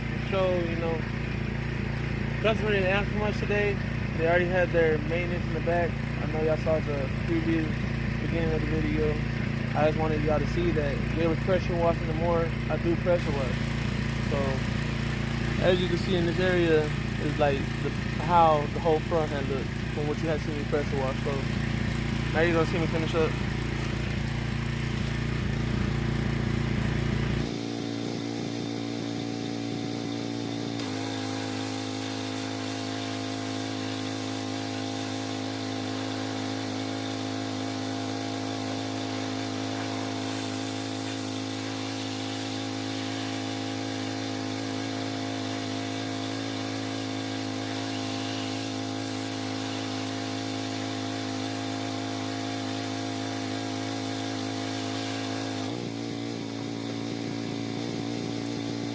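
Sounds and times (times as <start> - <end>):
pressure washer engine running: 0.0 - 58.9.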